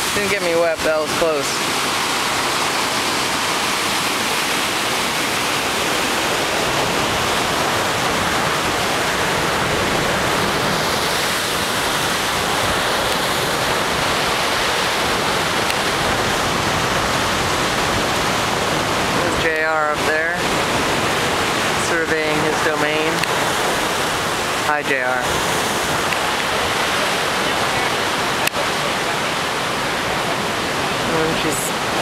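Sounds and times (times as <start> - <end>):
ocean surf rushing through rocks: 0.0 - 32.0.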